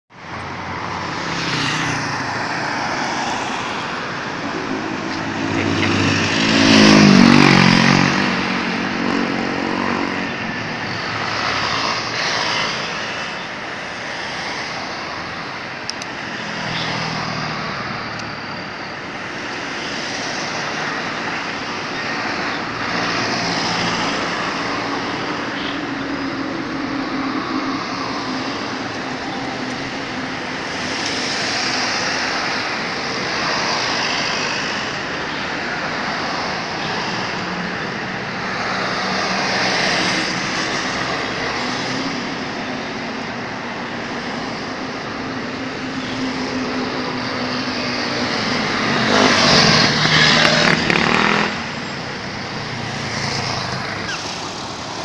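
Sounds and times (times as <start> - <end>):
faint vehicles going by: 0.2 - 55.0.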